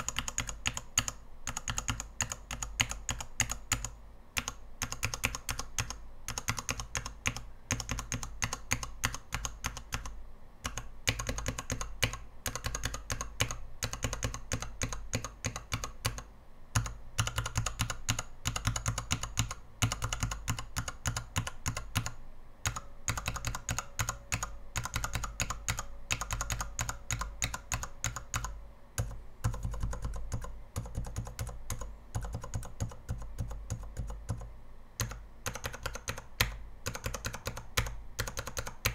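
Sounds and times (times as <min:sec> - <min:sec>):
mechanical keyboard keys clacking: 0:00.0 - 0:16.2, 0:16.8 - 0:38.9.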